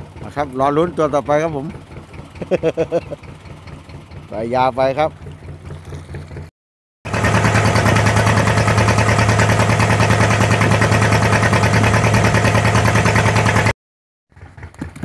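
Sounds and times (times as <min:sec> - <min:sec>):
boat engine throbbing: 0:00.0 - 0:06.5, 0:07.1 - 0:13.7.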